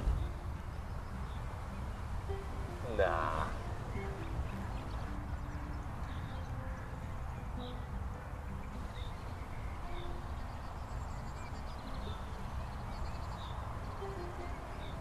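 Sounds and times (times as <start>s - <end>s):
bird trills: 0.0s - 15.0s
small birds chirping: 0.0s - 15.0s.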